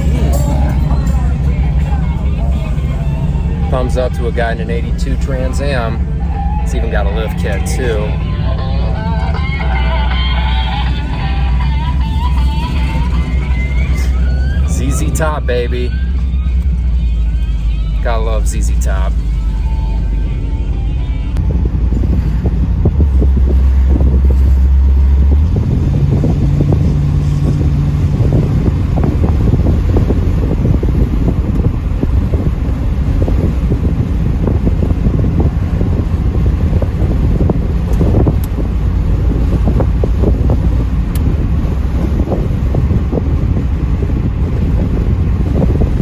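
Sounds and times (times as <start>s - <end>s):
car engine drone: 0.0s - 46.0s
wind buffeting microphone: 0.0s - 46.0s.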